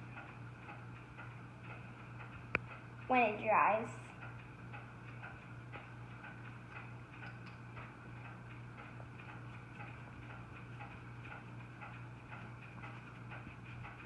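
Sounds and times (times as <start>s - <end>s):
steady low hum: 0.0s - 14.0s
faint light ticking taps: 0.2s - 2.9s, 4.1s - 14.0s.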